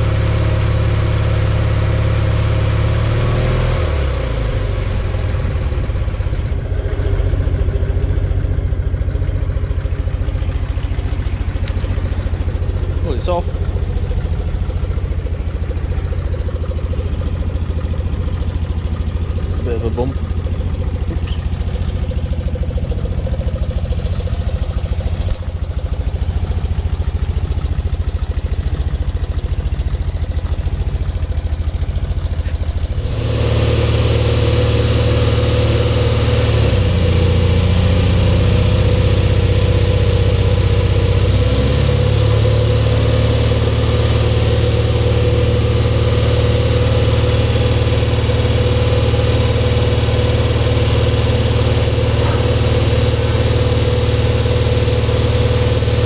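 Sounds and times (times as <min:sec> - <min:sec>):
crane engine running: 0:00.0 - 0:56.0.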